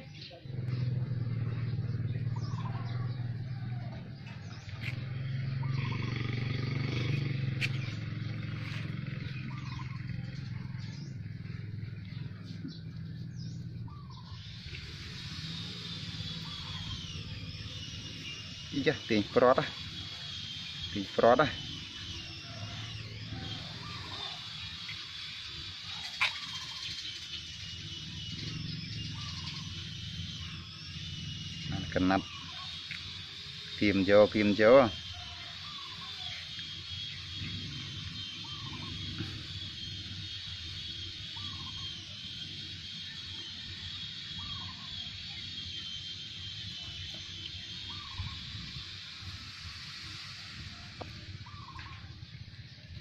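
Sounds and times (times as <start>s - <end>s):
faint chirps: 0.0s - 53.0s
low mechanical hum: 0.0s - 53.0s.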